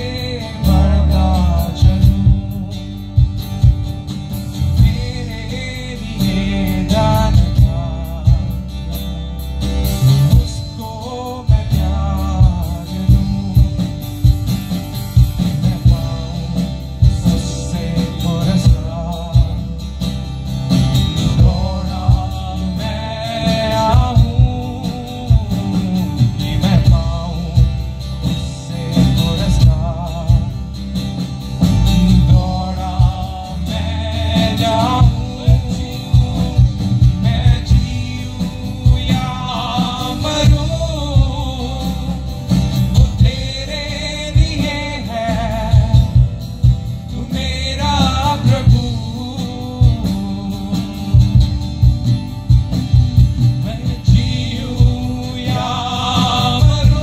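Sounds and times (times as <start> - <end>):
live band music: 0.0 - 57.0
man singing: 0.0 - 57.0.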